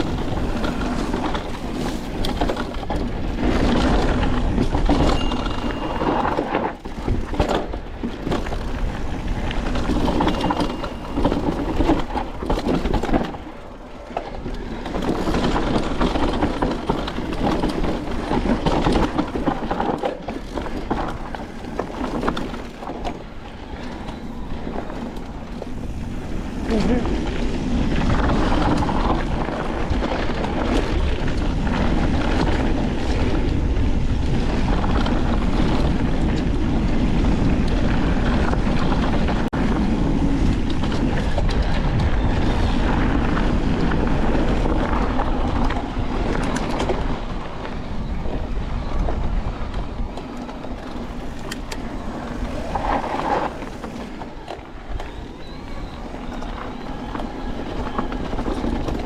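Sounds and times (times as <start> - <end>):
bike rattling over rough ground: 0.0 - 59.0
wind on microphone: 0.0 - 59.0.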